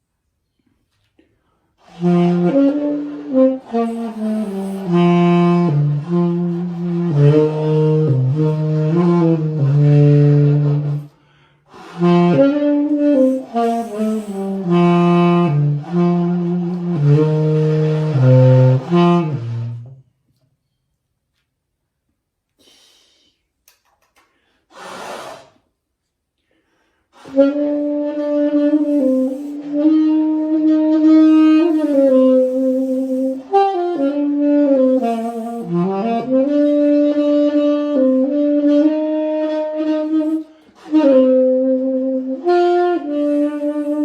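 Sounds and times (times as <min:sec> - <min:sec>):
solo saxophone hymn melody: 0:01.4 - 0:20.2, 0:27.1 - 0:44.0.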